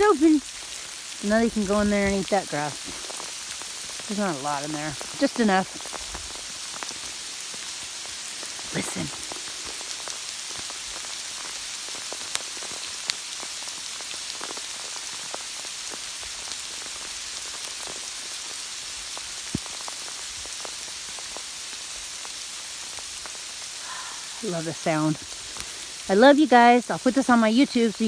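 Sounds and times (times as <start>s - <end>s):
raindrops ticking: 0.0s - 28.0s
steady rain falling: 0.0s - 28.0s.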